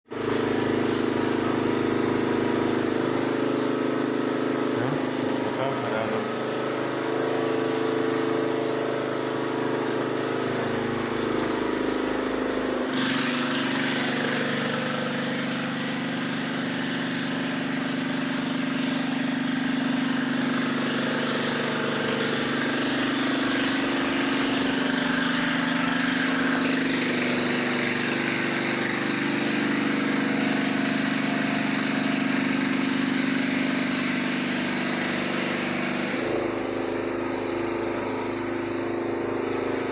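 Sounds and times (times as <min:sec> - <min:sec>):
engine running steadily: 0:00.1 - 0:39.9.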